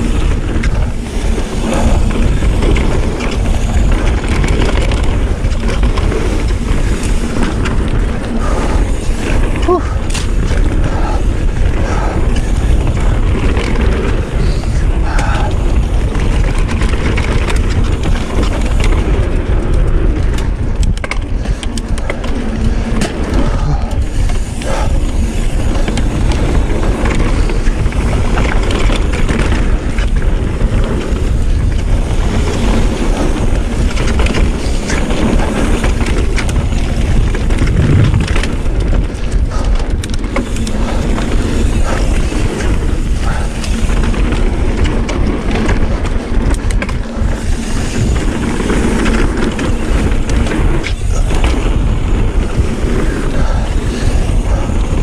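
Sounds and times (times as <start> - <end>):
bike knocks and rattles: 0.0 - 55.0
bike tyres rolling on dirt: 0.0 - 55.0
wind rushing over microphone: 0.0 - 55.0.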